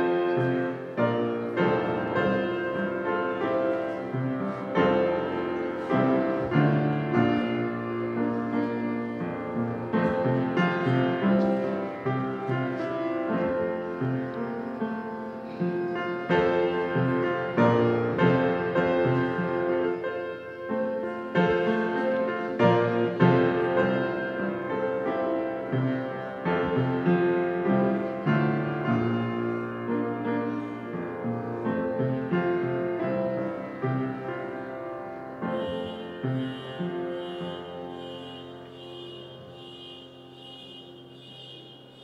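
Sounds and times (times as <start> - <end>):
slow piano music: 0.0 - 42.0.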